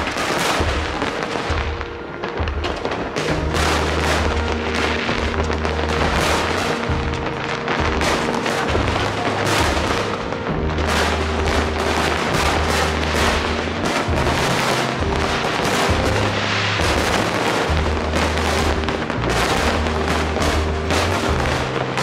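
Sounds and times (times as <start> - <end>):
fireworks bangs and crackling: 0.0 - 22.0
music with bass line: 0.0 - 22.0.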